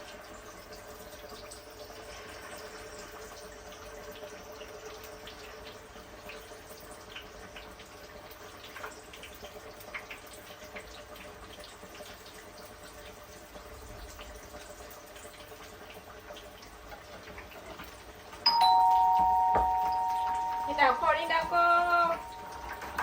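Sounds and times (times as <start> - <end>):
water running and dripping: 0.0 - 23.0.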